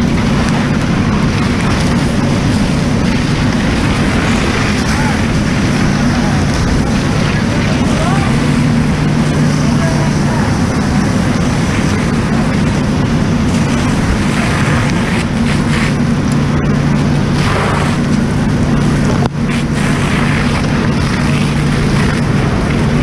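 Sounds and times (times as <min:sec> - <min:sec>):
diesel pump drone: 0:00.0 - 0:23.0
water rushing from a hose: 0:00.0 - 0:23.0.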